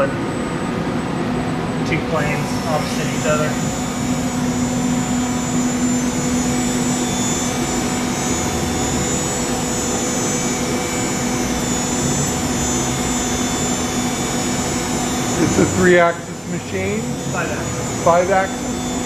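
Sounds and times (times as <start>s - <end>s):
cnc router whirring: 0.0s - 19.0s.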